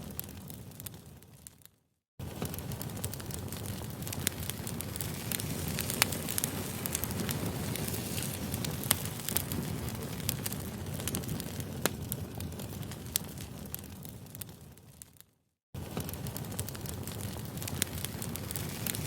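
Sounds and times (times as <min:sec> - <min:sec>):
wood crackling and popping: 0:00.0 - 0:19.0
low rush of flames: 0:02.2 - 0:15.2, 0:15.8 - 0:19.0.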